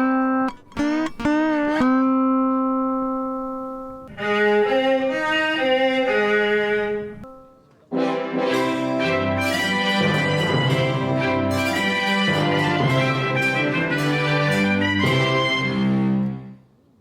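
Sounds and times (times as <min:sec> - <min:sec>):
slow string-like melody: 0:00.0 - 0:16.7.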